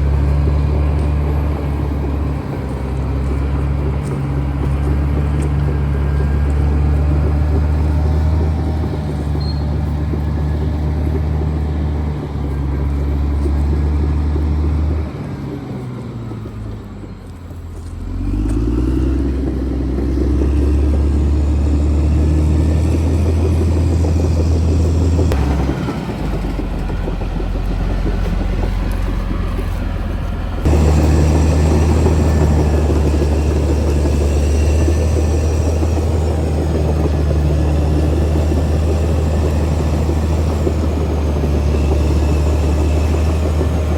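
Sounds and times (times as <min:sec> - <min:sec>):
bulldozer diesel engine: 0:00.0 - 0:43.9.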